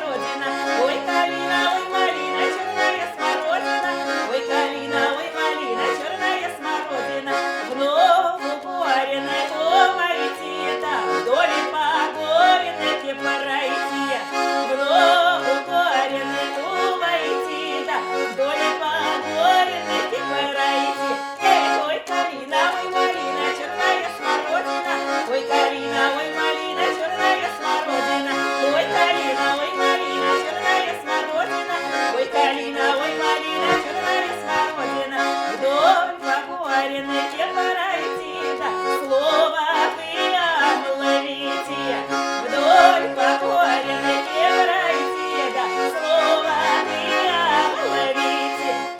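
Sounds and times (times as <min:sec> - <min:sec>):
accordion folk tune: 0:00.0 - 0:48.9.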